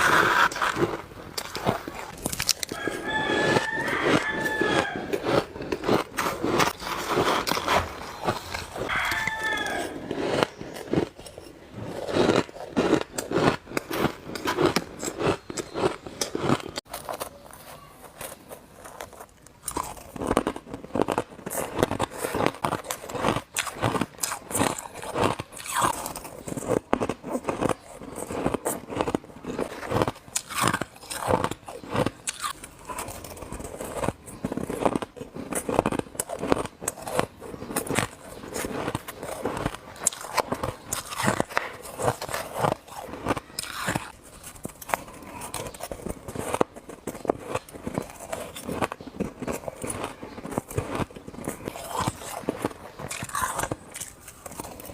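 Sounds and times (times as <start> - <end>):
chewing: 0.0 - 54.9
ice crunching between teeth: 0.0 - 54.9.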